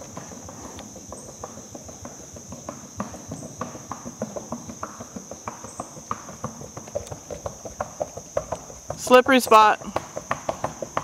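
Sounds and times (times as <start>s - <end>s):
hooves clopping on wooden bridge: 0.0s - 11.0s.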